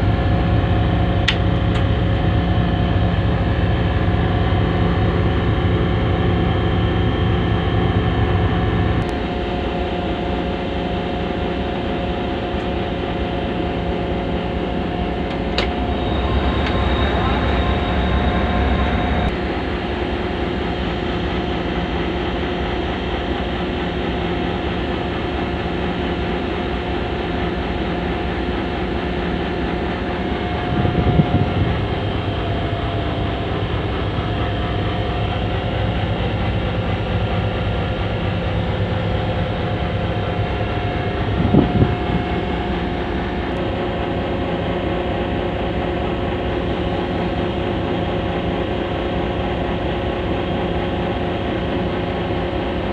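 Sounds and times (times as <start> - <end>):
diesel locomotive engine running: 0.0 - 52.9
steady whine: 0.0 - 52.9.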